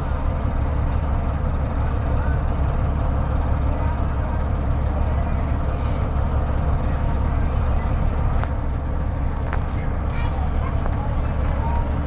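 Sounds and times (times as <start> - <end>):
ship engine low rumble: 0.0 - 12.0.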